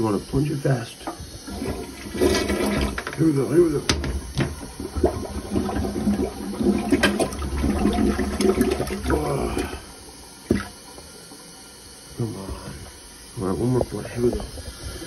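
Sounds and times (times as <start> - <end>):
plunger pumping with water sloshing: 0.0 - 15.0
toilet flushing: 0.0 - 15.0.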